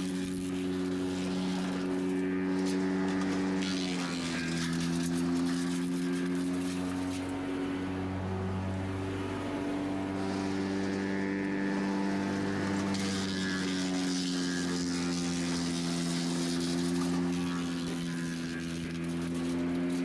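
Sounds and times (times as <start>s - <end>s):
wood chipper engine running: 0.0s - 20.0s.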